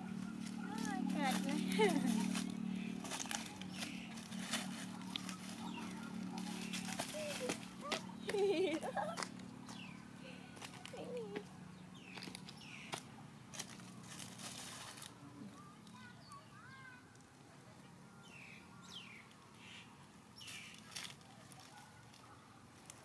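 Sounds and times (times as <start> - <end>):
dry leaves rustling: 0.0 - 16.1, 20.4 - 23.0
faint bird chirps and twittering: 0.0 - 22.9.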